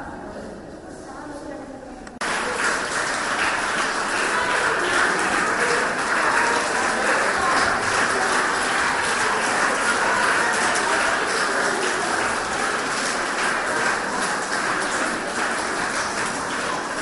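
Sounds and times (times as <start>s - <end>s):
crowd of schoolchildren chattering: 0.0s - 17.0s.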